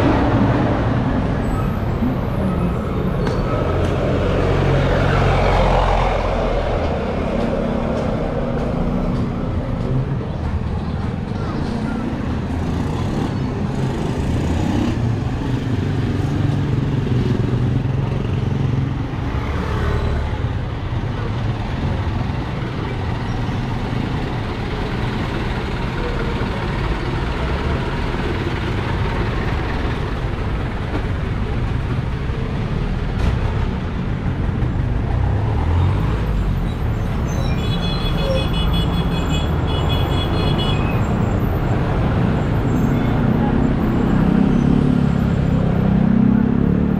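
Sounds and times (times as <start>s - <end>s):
street noise: 0.0s - 46.9s.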